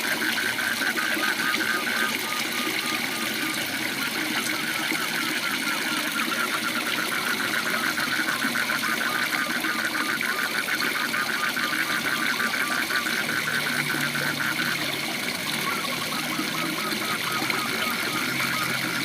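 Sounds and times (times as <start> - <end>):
frog rapid pulsed call: 0.0 - 19.0.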